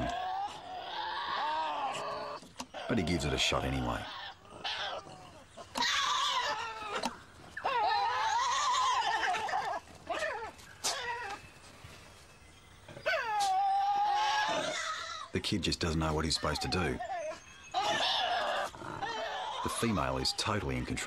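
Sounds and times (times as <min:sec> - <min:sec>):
tasmanian devils screeching: 0:00.0 - 0:11.8, 0:12.9 - 0:21.0.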